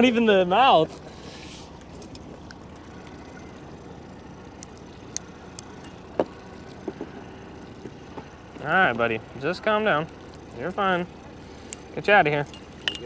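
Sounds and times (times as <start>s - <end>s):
boat background noise: 0.0s - 13.0s.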